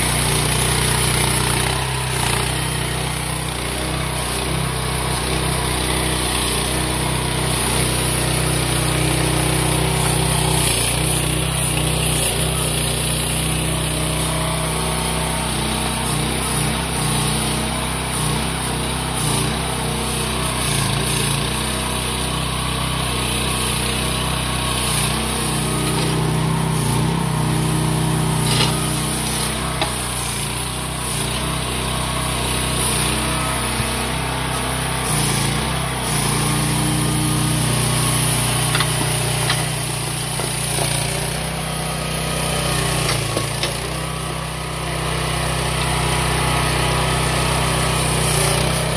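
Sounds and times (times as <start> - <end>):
small excavator engine running: 0.0 - 48.9.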